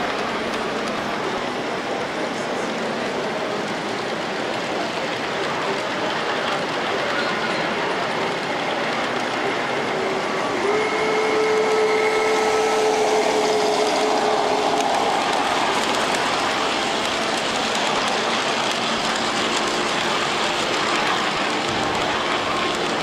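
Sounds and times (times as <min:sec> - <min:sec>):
model train wheels on rail: 0:00.0 - 0:23.0.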